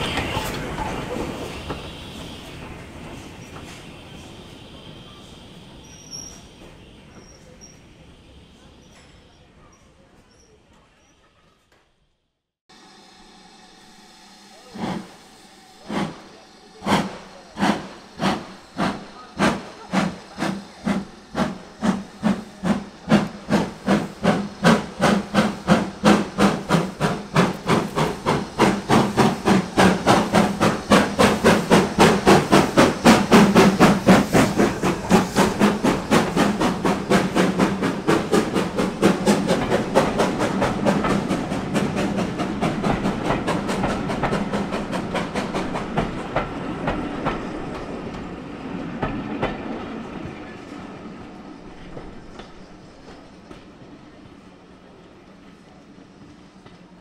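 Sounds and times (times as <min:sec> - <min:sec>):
steam locomotive chuffing: 0:00.0 - 0:09.6, 0:12.7 - 0:55.0.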